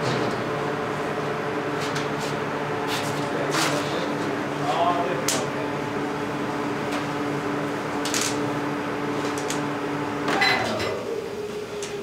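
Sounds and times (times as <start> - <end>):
furnace humming: 0.0 - 12.0.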